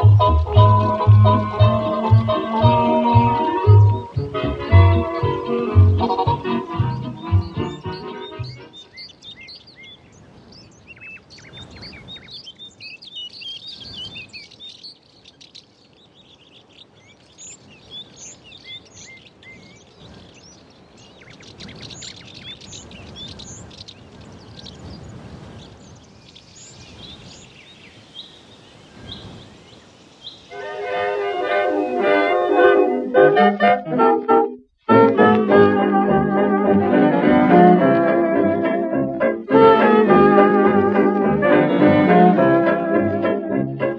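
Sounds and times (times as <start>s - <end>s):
faint background hiss: 0.0s - 43.9s
songbirds chirping: 0.0s - 43.9s.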